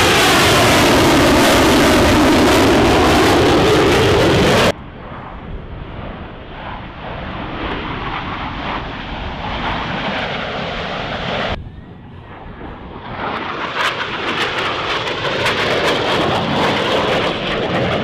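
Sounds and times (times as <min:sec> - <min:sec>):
jets flying overhead: 0:00.0 - 0:18.0.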